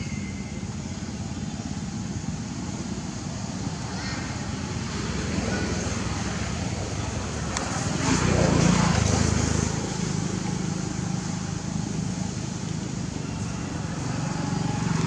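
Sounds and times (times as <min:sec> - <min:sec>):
motor vehicle engine passing: 0:02.1 - 0:15.0.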